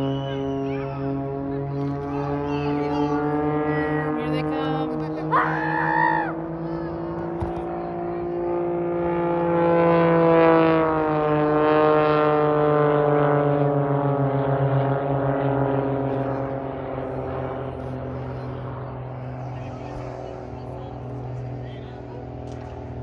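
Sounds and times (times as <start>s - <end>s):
aircraft engine droning: 0.0s - 23.0s.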